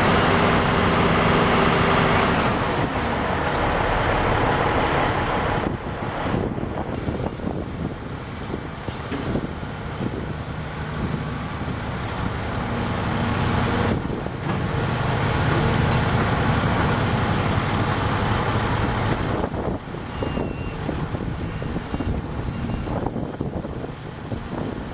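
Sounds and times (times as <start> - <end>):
excavator diesel engine working: 0.0 - 24.9.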